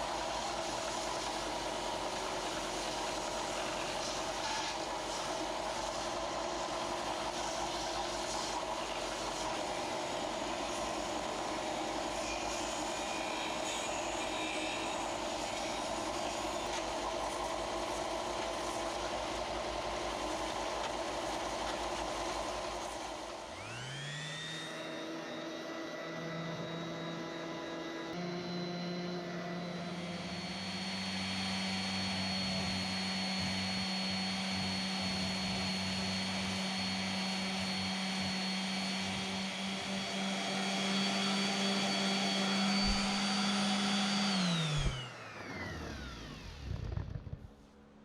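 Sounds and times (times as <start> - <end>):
electric motor whine: 0.0 - 47.6
power tool grinding: 0.0 - 47.6.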